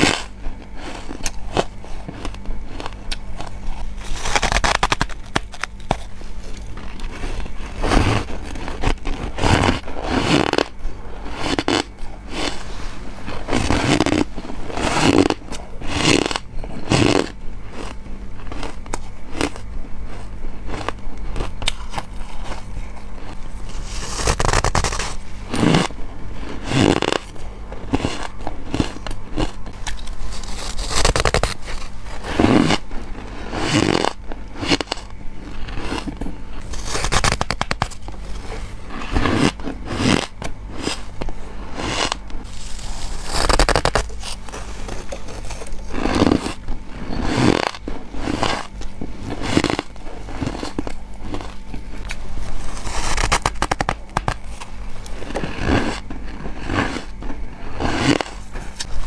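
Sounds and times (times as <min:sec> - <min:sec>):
biting and chewing frost: 0:00.0 - 0:59.0
faint low hum: 0:00.0 - 0:59.0.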